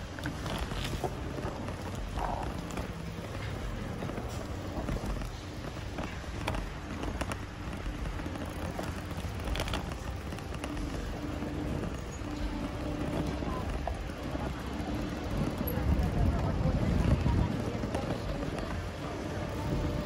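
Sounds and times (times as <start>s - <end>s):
bicycle clicks and rattles: 0.0s - 20.0s
street noise: 0.0s - 20.0s
wind on microphone: 0.0s - 20.0s.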